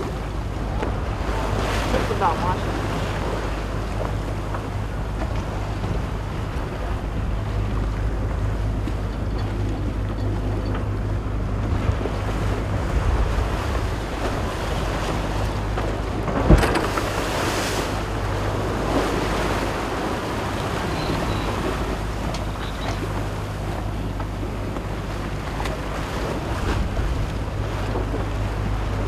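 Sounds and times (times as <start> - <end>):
sea water rushing along hull: 0.0 - 29.0
wind buffeting microphone: 0.0 - 29.0.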